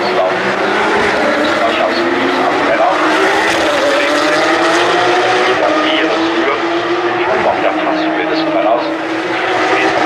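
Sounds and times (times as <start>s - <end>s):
race car engines revving high: 0.0s - 10.0s.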